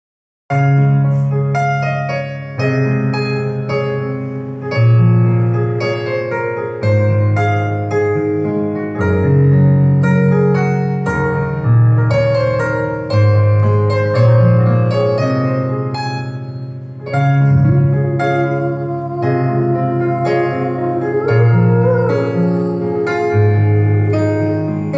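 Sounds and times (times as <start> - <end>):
slow piano music: 0.5 - 24.9.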